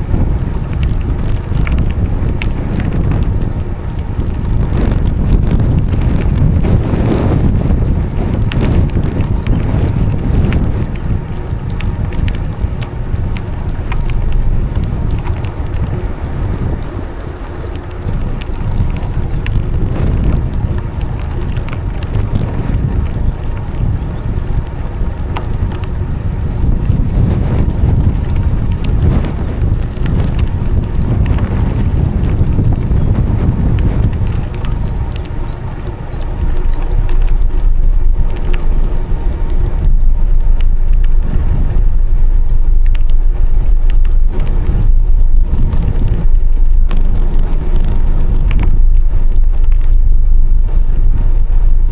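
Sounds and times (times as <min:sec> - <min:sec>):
bicycle tyres rumbling: 0:00.0 - 0:51.9
wind buffeting microphone: 0:00.0 - 0:51.9.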